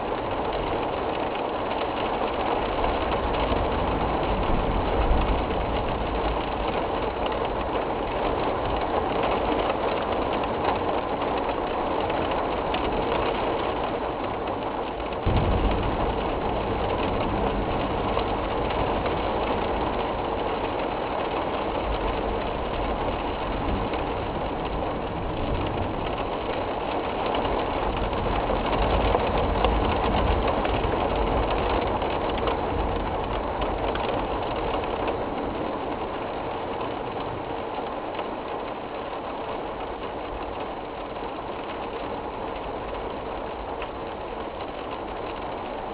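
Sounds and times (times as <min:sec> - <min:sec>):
heavy rain: 0:00.0 - 0:45.9
wind rumble on microphone: 0:00.0 - 0:45.9.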